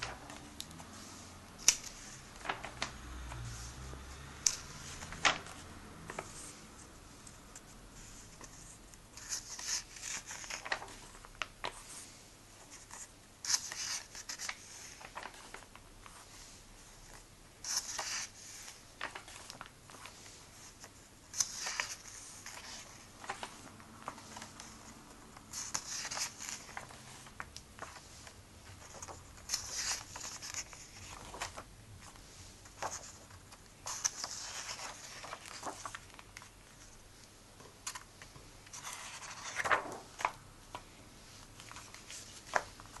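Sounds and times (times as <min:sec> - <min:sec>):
pages turning: 0:00.0 - 0:16.5, 0:17.1 - 0:43.0.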